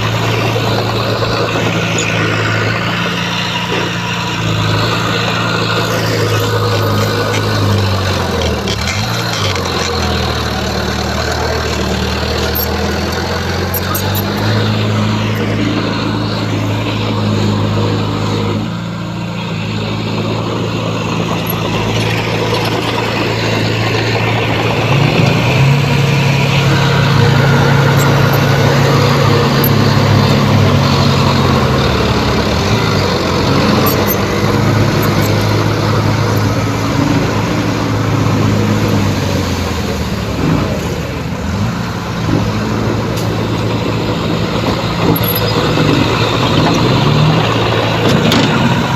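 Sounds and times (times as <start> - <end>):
heavy diesel machinery engines: 0.0 - 48.9.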